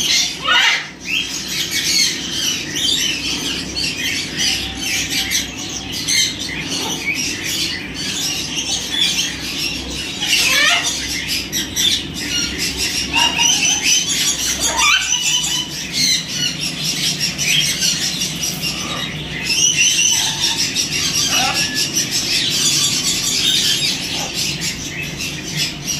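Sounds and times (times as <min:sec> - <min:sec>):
parrots squawking and chattering: 0:00.0 - 0:25.9.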